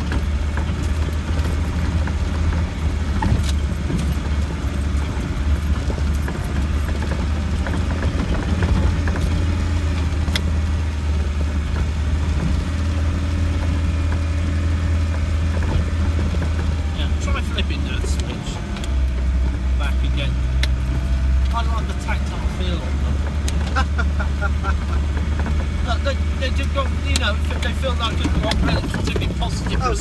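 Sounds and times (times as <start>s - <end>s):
bodywork rattling and knocking: 0.0s - 30.0s
car engine droning: 0.0s - 30.0s.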